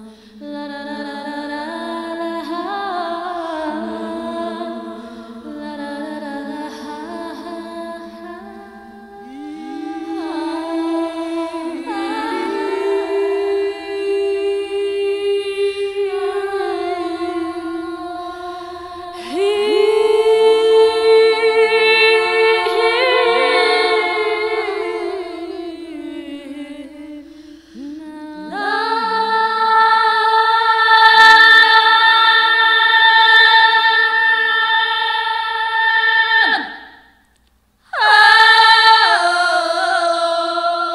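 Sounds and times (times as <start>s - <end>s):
wordless vocal harmony: 0.0s - 37.2s, 37.9s - 40.9s.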